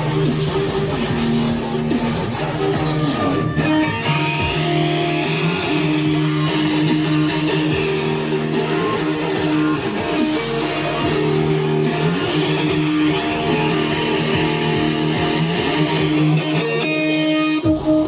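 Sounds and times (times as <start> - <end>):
bass guitar: 0.0 - 18.0
electric guitar strumming chords: 0.0 - 18.0.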